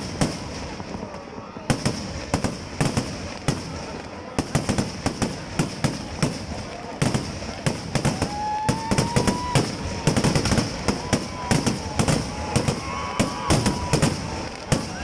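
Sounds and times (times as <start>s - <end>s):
crackling sparks: 0.0s - 15.0s
fireworks bangs: 0.0s - 15.0s.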